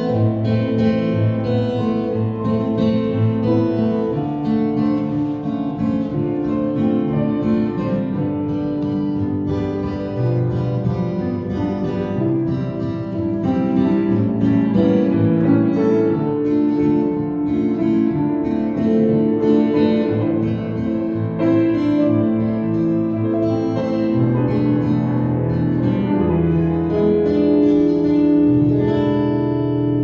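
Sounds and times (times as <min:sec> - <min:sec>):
guitar and piano ballad: 0:00.0 - 0:30.0.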